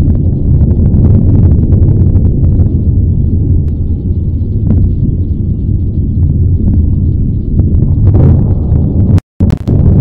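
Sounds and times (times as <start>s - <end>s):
lava crackles and pops: 0.0s - 10.0s
lava fountain deep rumble: 0.0s - 10.0s.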